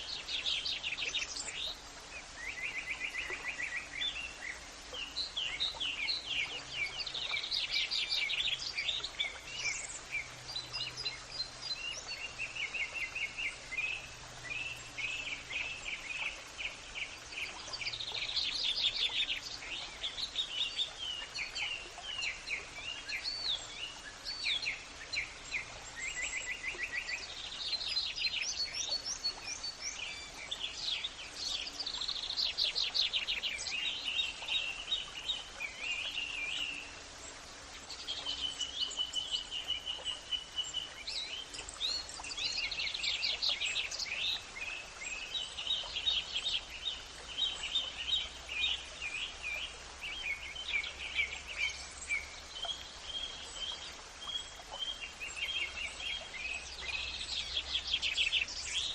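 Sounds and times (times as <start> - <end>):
birds singing: 0.0 - 58.9
faint background hiss: 0.0 - 58.9.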